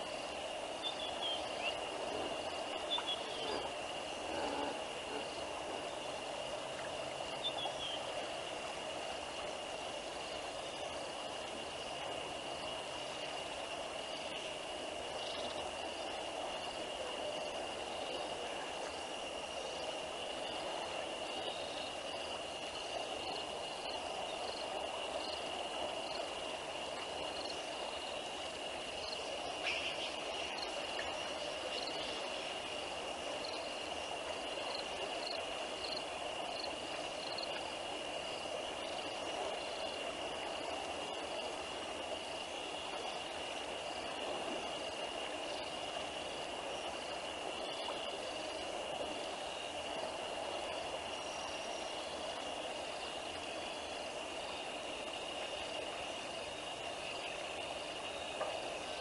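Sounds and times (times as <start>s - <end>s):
constant low noise: 0.0s - 59.0s
high insect trill: 0.0s - 59.0s.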